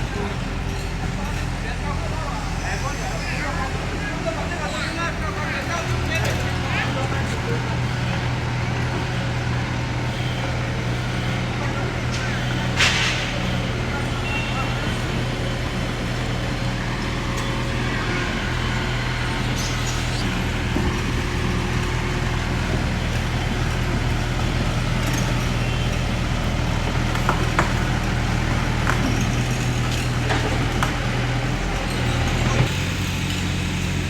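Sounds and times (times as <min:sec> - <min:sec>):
diesel machinery engine drone: 0:00.0 - 0:34.0.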